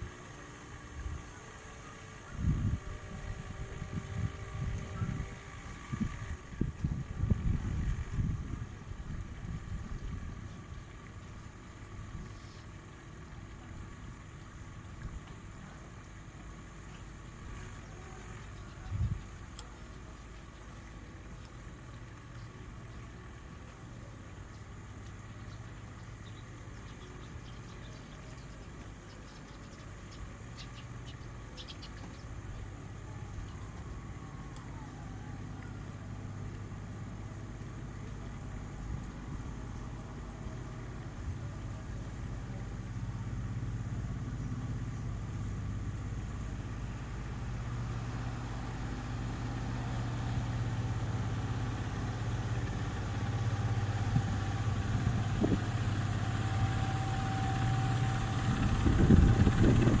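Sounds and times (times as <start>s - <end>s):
engine humming: 0.0s - 60.0s.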